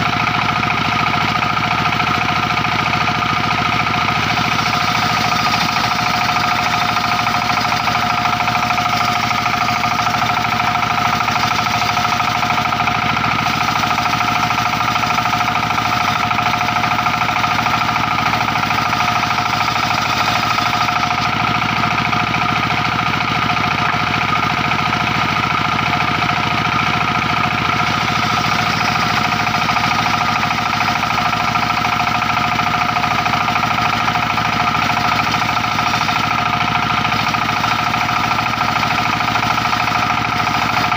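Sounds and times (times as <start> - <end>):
sawmill circular saw whine: 0.0 - 40.9.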